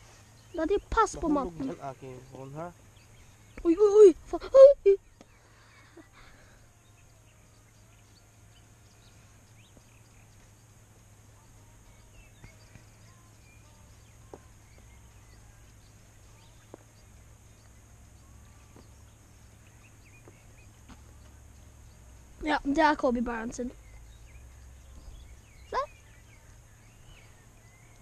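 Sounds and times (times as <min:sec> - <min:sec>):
low steady hum and hiss: 0:00.0 - 0:28.0.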